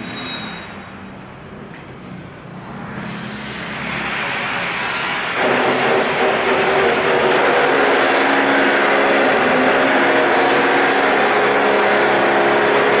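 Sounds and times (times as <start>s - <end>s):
loud machine noise: 2.4s - 13.0s.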